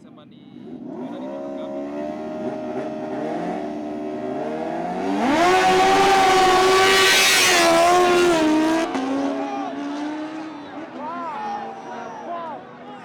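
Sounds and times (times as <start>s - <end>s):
motorcycle engines revving: 0.5s - 13.0s.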